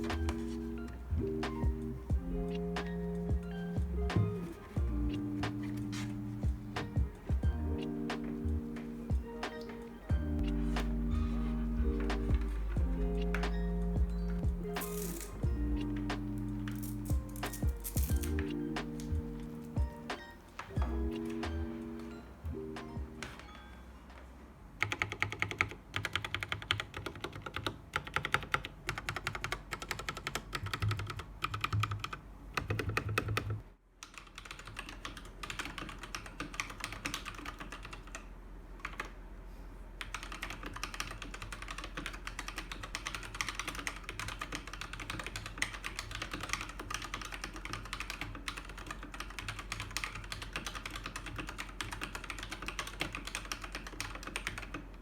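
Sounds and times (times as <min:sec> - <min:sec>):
mechanical keyboard typing: 0:00.0 - 0:22.2, 0:24.8 - 0:39.2, 0:40.0 - 0:55.0.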